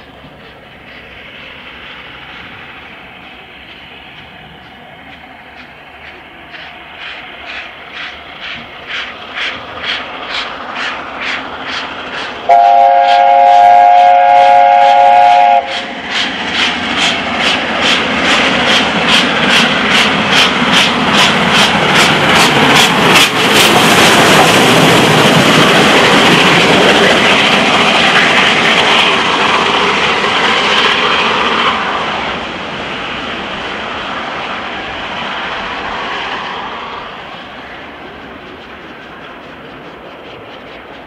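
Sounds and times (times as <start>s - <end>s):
steam locomotive exhaust beat: 0.0s - 41.0s.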